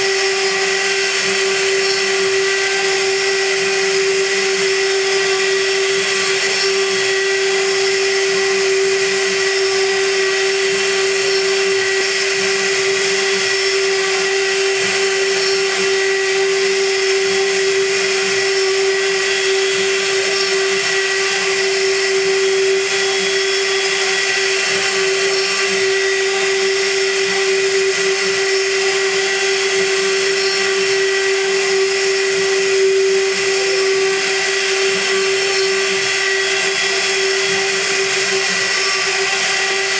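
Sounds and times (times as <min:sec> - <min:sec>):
end mill cutting metal hiss: 0:00.0 - 0:39.9
milling spindle whining: 0:00.0 - 0:39.9.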